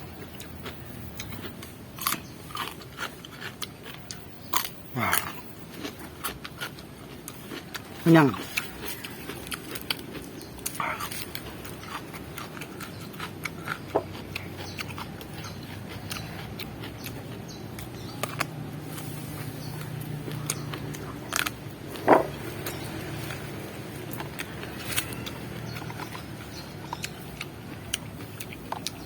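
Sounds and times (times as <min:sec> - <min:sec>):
chewing raw vegetables: 0:00.0 - 0:29.0.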